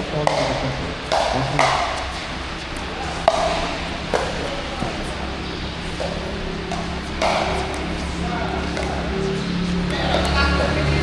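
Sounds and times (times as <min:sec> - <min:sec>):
paddles hitting plastic ball: 0:00.2 - 0:10.6.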